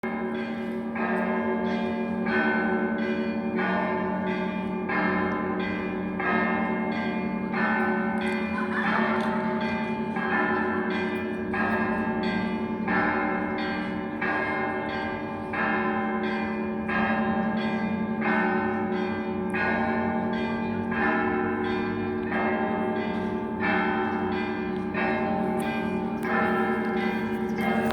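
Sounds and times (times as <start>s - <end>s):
hum of large bell: 0.0s - 27.9s
small church bells ringing: 0.0s - 27.9s.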